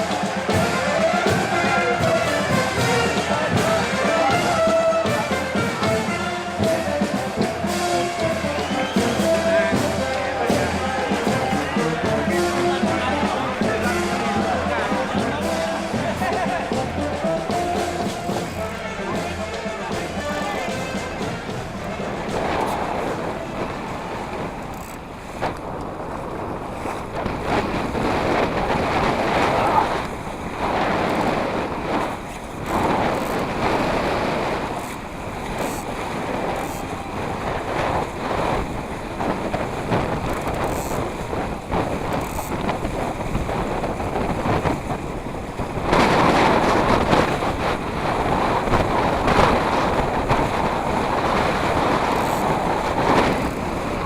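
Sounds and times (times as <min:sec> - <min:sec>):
water splashing along hull: 0:00.0 - 0:54.0
wind buffeting microphone: 0:06.0 - 0:54.0.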